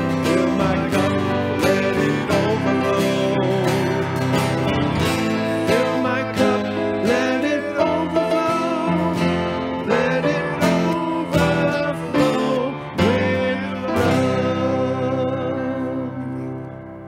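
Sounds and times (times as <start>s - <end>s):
acoustic guitar strummed: 0.0s - 17.0s
person singing a hymn: 0.0s - 17.0s.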